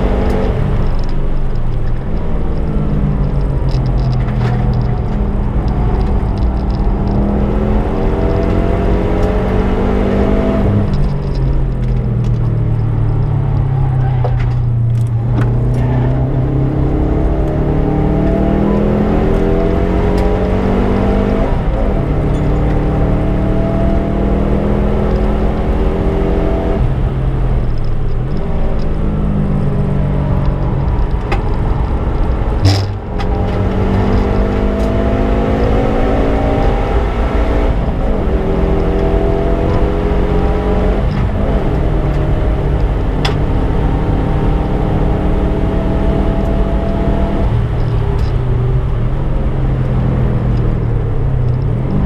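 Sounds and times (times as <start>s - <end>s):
car engine accelerating: 0.0s - 52.0s
road and wind rumble: 0.0s - 52.0s.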